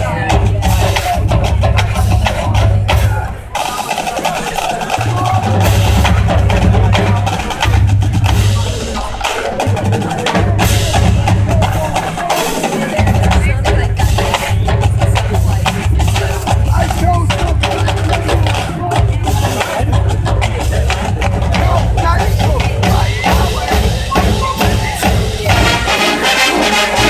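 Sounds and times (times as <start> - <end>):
bass drum: 0.0 - 27.0
marching band playing: 0.0 - 27.0.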